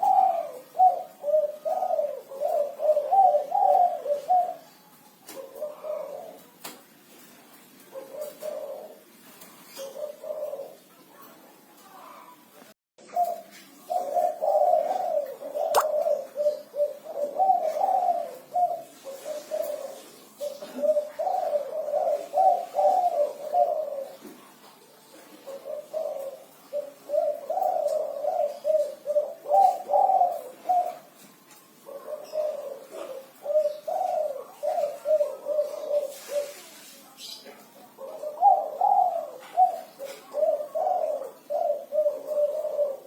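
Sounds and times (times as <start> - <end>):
dove cooing: 0.0 - 43.0.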